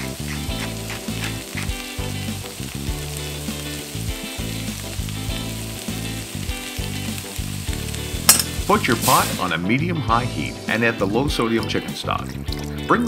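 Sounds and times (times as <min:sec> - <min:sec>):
food sizzling in a frying pan: 0:00.0 - 0:12.8
background music: 0:00.0 - 0:13.0.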